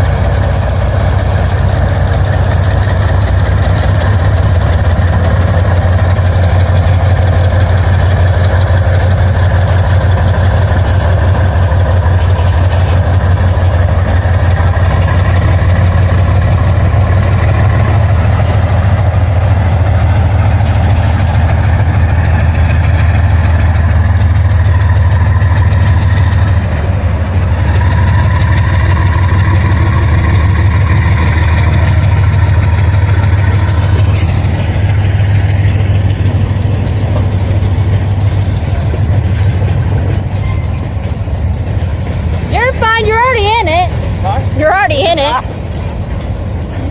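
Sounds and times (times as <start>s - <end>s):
diesel locomotive engines droning: 0.0s - 46.9s.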